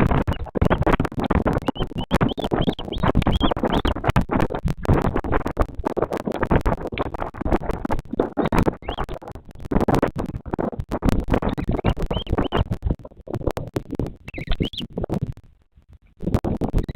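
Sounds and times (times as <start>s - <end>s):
microphone crackling and scratching: 0.0s - 16.9s.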